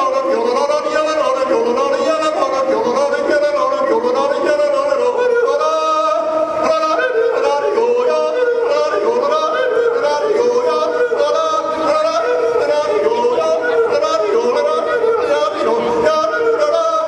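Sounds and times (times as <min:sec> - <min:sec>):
man yodeling into microphone: 0:00.0 - 0:17.0.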